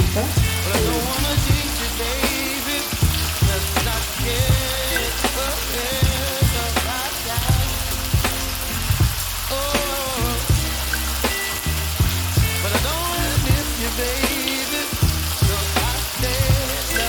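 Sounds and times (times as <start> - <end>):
faint background music: 0.0 - 17.0
sausage sizzling in a pan: 0.0 - 17.0.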